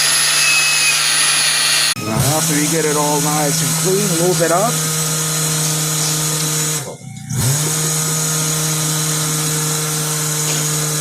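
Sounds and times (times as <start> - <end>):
electric grinder running: 0.0 - 11.0.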